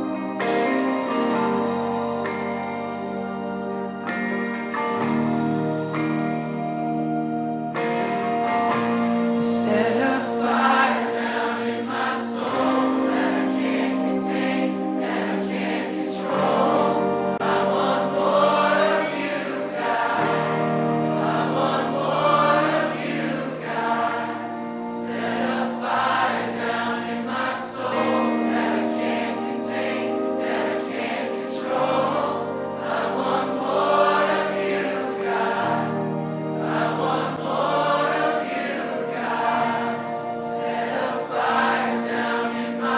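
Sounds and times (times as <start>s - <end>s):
choir singing gospel song: 0.0s - 42.9s
sustained instrumental chords: 0.0s - 42.9s.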